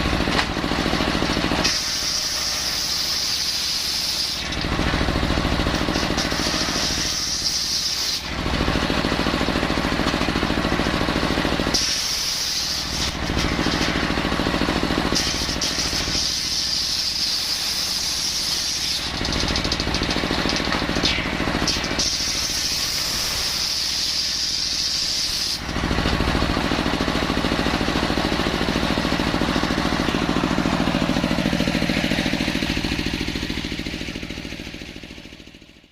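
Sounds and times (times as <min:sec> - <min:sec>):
circular saw cutting wood: 0:00.0 - 0:33.4.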